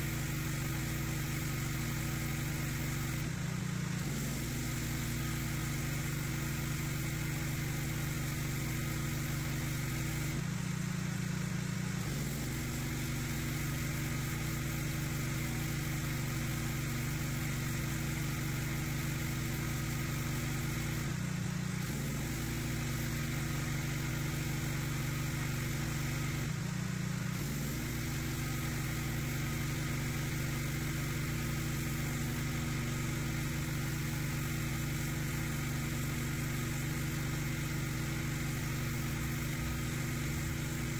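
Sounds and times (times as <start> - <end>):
high-pressure jet spraying concrete: 0.0 - 40.9
pressure washer motor humming: 0.0 - 40.9.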